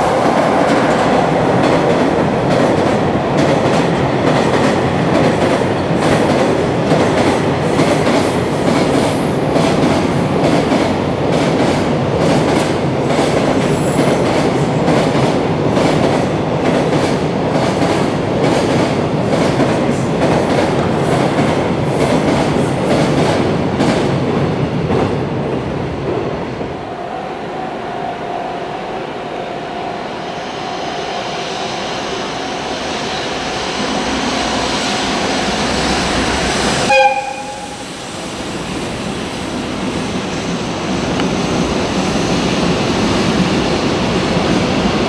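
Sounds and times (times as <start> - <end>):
freight train rumbling past: 0.0 - 45.0.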